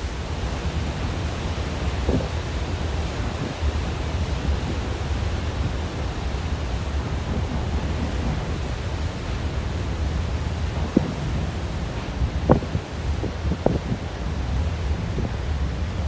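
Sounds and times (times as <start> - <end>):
wind and sea rushing: 0.0 - 16.0.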